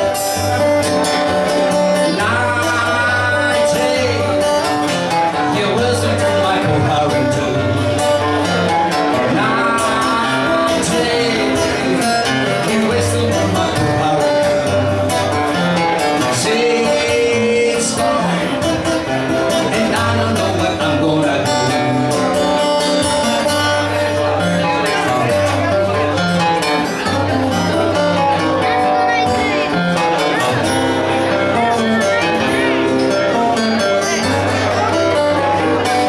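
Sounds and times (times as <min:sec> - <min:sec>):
acoustic guitar playing: 0:00.0 - 0:36.0.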